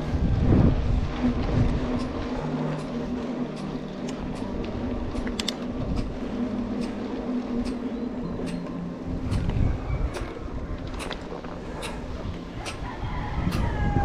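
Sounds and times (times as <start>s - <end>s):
bike clicks and rattles: 0.0s - 14.0s
bike tyres and drivetrain humming: 0.0s - 14.0s.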